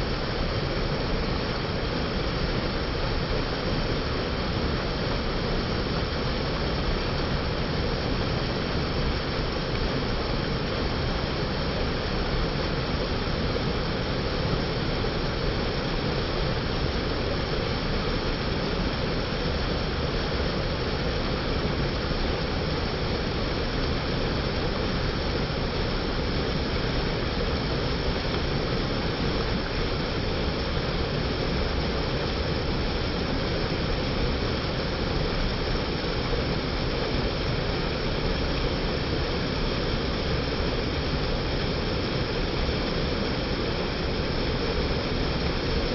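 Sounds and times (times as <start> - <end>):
creek water rushing: 0.0 - 45.9.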